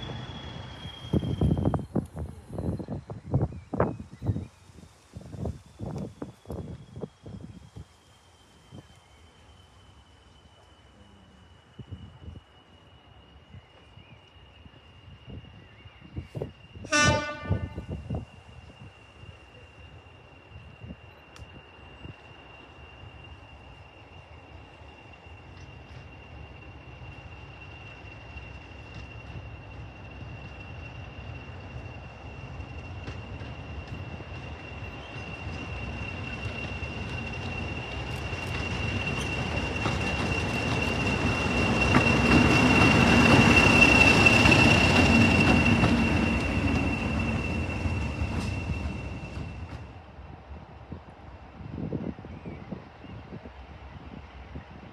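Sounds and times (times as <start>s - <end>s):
passing train rumble: 0.0s - 54.9s.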